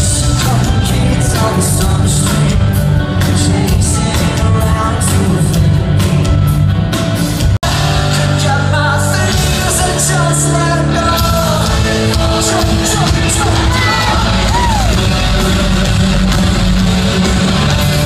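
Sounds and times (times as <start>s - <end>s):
live pop-punk band: 0.0s - 18.0s.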